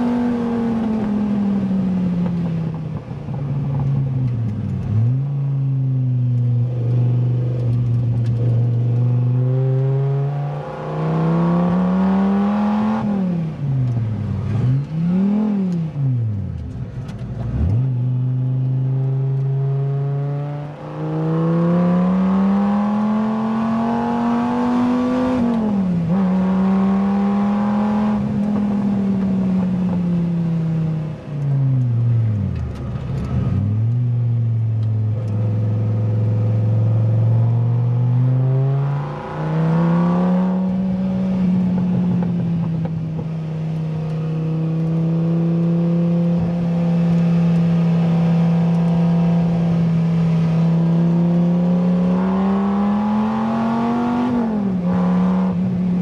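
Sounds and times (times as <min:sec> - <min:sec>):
sports car engine revving: 0:04.4 - 0:56.0.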